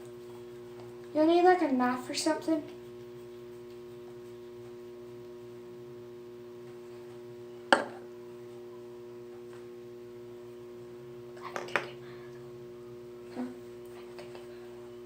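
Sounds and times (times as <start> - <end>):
steady hum of fixed tones: 0.0 - 15.0.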